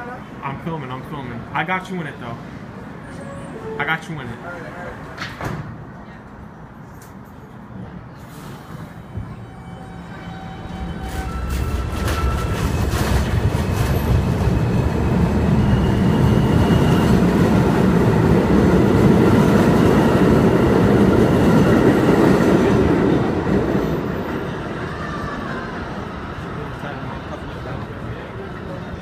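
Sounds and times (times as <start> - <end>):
subway train rumbling past: 0.0 - 6.9, 7.5 - 29.0.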